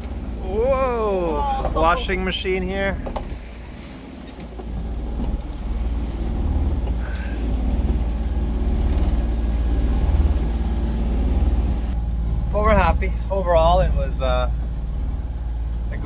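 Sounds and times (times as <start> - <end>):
boat engine droning: 0.0 - 16.0
choppy water: 0.0 - 16.0
wind: 0.0 - 16.0.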